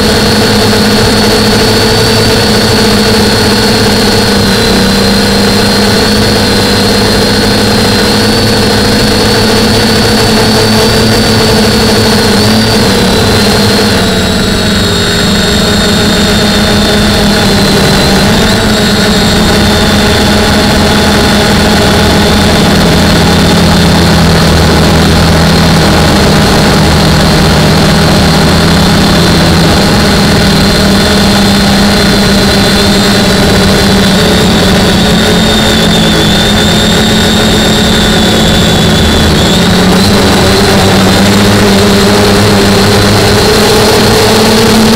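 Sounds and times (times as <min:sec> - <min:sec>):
quadcopter motors whining: 0:00.0 - 0:44.9.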